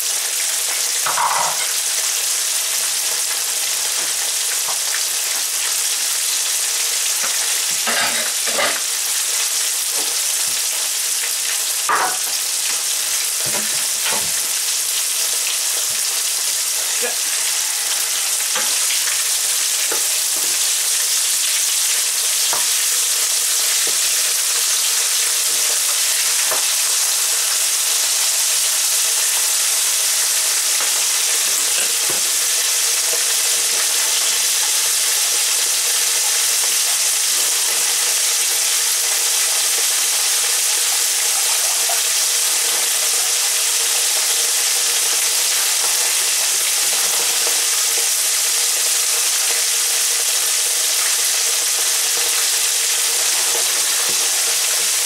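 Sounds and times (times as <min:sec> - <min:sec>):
deep-frying sizzle: 0:00.0 - 0:55.0.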